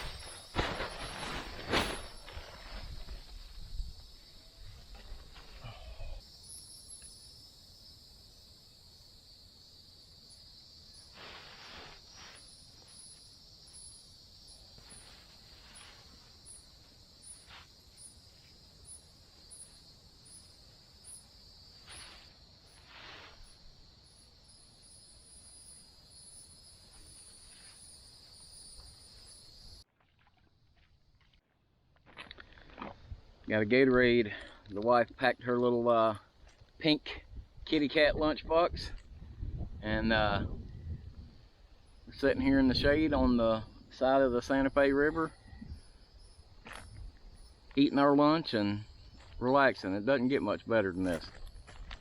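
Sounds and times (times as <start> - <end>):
insect chorus buzzing: 0.0 - 29.8, 39.1 - 52.0.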